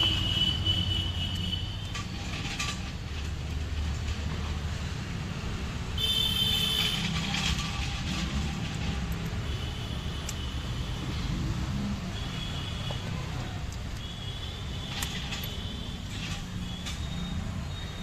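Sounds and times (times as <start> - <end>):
motor vehicles rumbling: 0.0 - 18.0.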